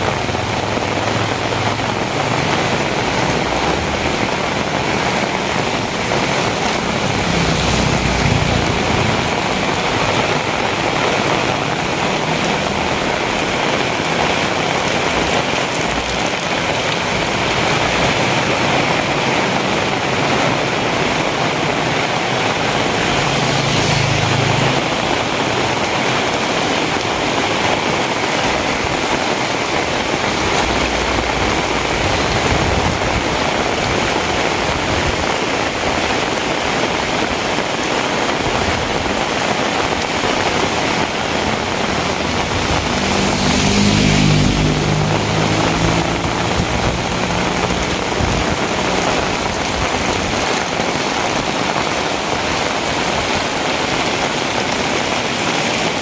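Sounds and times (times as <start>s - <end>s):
heavy rain: 0.0s - 56.0s
engine hum: 0.2s - 34.5s, 38.6s - 51.4s.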